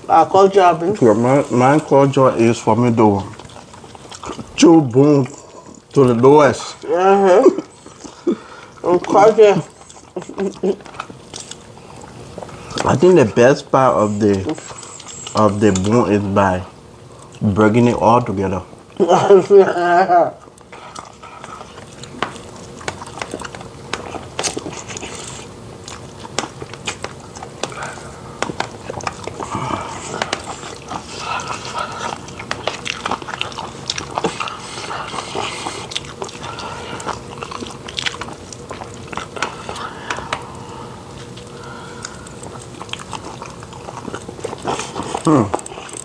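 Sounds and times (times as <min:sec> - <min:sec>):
crunching and wet mouth sounds: 0:00.0 - 0:17.5, 0:20.3 - 0:46.0
people chewing food: 0:00.0 - 0:46.0.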